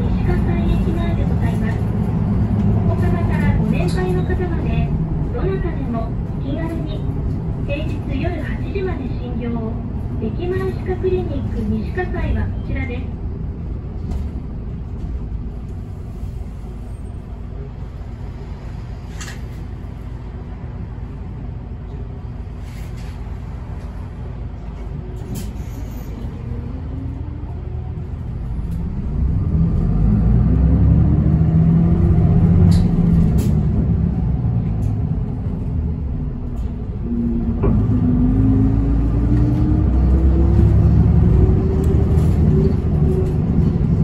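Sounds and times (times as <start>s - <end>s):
bus engine accelerating: 0.0s - 44.0s.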